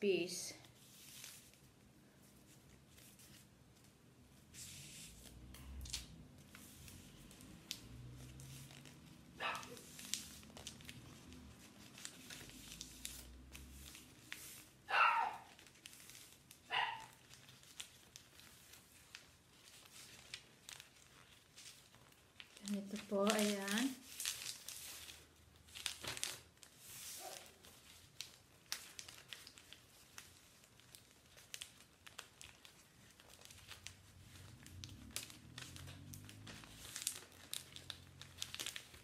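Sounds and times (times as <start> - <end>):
newspaper rustling and crinkling: 0.6 - 39.0.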